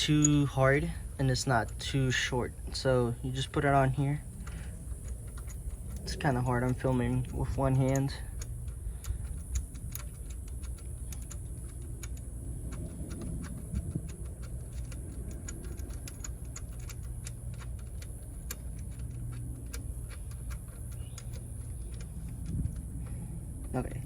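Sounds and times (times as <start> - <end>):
steady low hum: 0.0 - 24.0
light metallic clicks and taps: 1.6 - 24.0.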